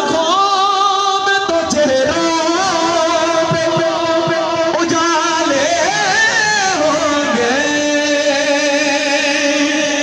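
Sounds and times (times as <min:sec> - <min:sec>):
person singing over loudspeaker: 0:00.0 - 0:10.0.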